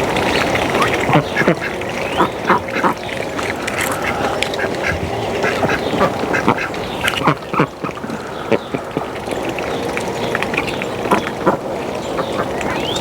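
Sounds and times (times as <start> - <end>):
ducks quacking: 0.3 - 13.0.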